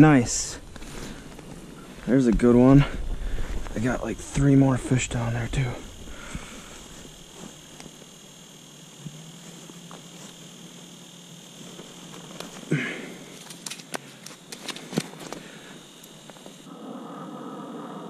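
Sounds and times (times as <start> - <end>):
faint high-pitched whine: 0.0 - 18.0.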